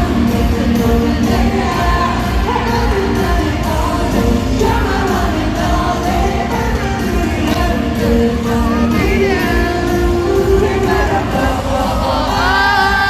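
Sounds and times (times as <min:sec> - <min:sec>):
amplified backing track with heavy bass: 0:00.0 - 0:13.0
male group singing: 0:00.0 - 0:13.0.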